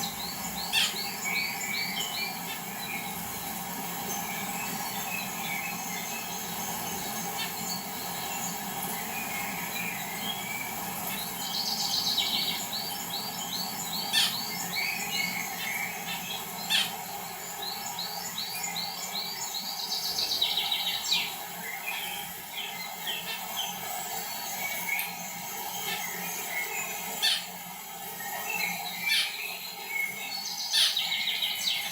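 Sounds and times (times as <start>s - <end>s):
small birds chirping: 0.0s - 31.9s
steady background hum: 0.0s - 31.9s.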